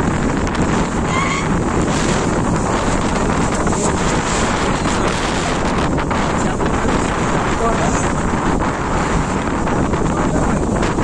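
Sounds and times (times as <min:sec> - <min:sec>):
water lapping: 0:00.0 - 0:11.0
wind buffeting microphone: 0:00.0 - 0:11.0.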